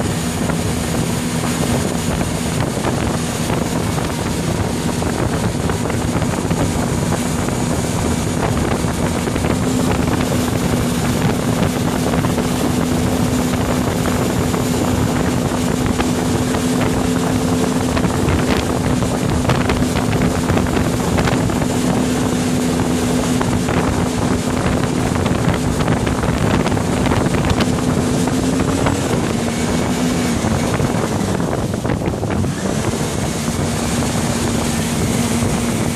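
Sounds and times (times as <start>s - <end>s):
churning wake rushing: 0.0s - 35.9s
motorboat engine running: 0.0s - 35.9s
wind buffeting microphone: 0.0s - 35.9s.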